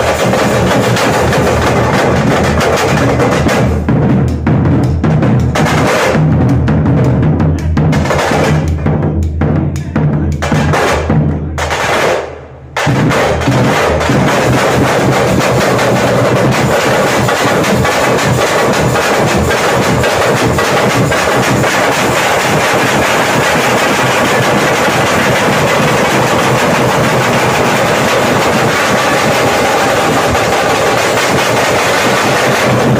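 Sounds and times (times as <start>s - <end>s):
bass drum beating: 0.0s - 11.7s, 12.7s - 32.9s
snare drums: 0.0s - 32.9s.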